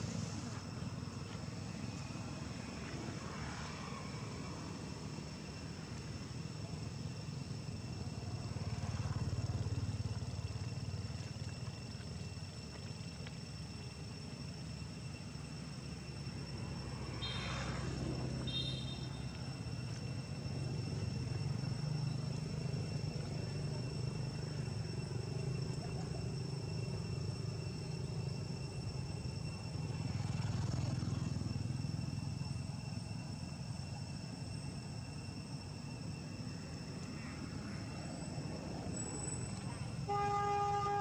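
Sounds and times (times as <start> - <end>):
high insect drone: 0.0 - 41.0.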